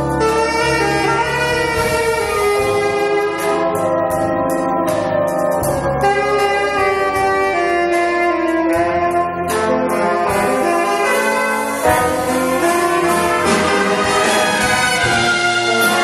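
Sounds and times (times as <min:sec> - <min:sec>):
jazz big band playing: 0:00.0 - 0:16.0
tenor saxophone: 0:00.0 - 0:16.0.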